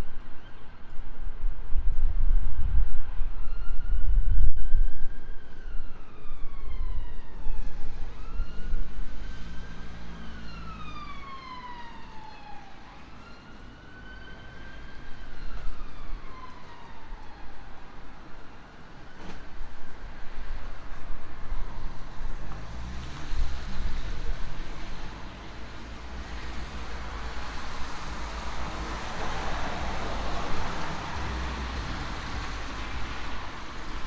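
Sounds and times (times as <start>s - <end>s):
emergency siren wailing: 2.6s - 34.0s.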